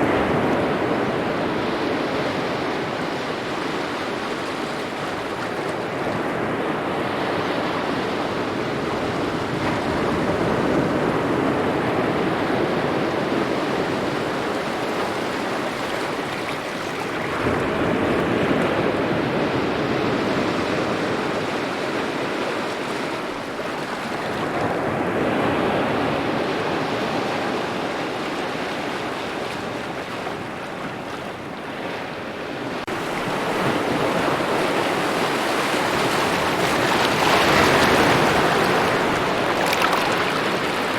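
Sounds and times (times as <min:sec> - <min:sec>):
small waves lapping on shore: 0:00.0 - 0:40.9.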